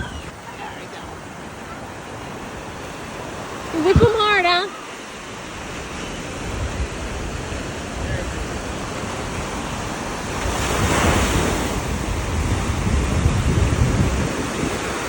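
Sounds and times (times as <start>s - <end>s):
wind rumbling on microphone: 0.0s - 4.6s, 5.3s - 15.0s
waves washing on shore: 0.0s - 15.0s.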